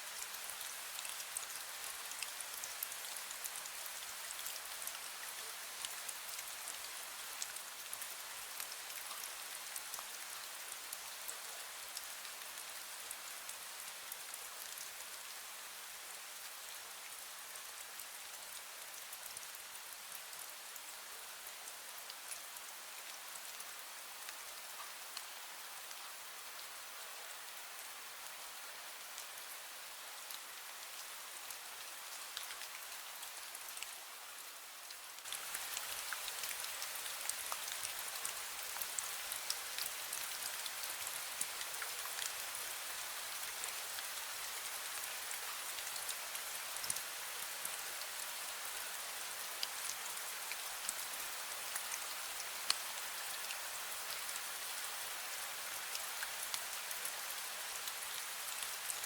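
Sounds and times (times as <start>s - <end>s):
fine rain falling: 0.0s - 59.0s.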